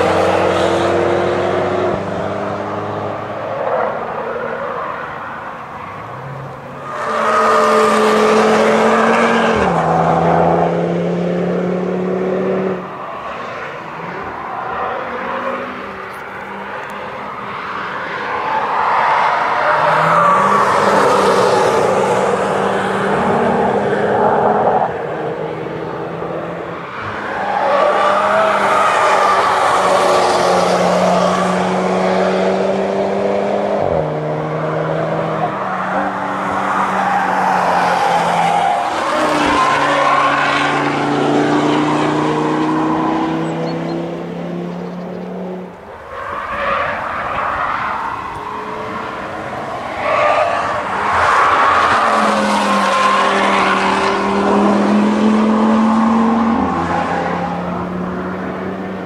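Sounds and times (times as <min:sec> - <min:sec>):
race cars driving past revving: 0:00.0 - 0:59.0.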